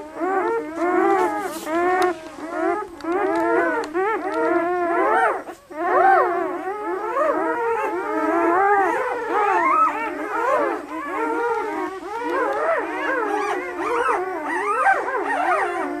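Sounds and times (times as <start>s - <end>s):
puppies crying: 0.0s - 16.0s.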